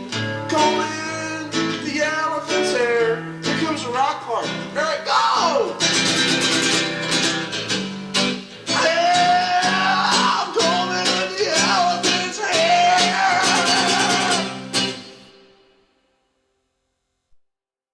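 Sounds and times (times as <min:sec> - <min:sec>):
hard-strummed guitar: 0:00.0 - 0:16.2.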